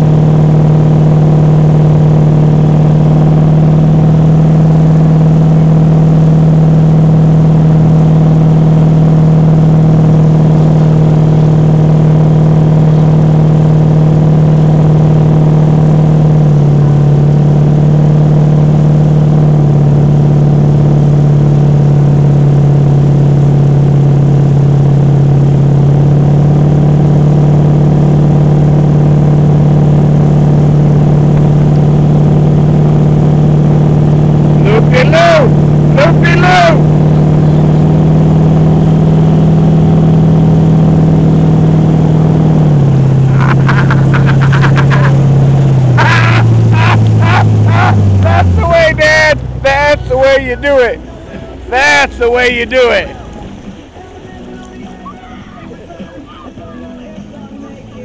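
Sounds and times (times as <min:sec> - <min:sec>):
churning wake rushing: 0:00.0 - 0:58.0
motorboat engine drone: 0:00.0 - 0:58.0.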